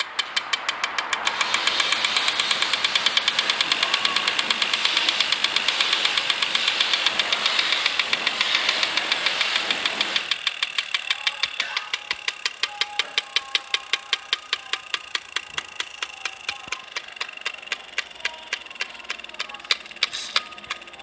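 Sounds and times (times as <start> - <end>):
bike trainer flywheel whirring: 0.0 - 21.0
rapid regular clicking: 0.0 - 21.0.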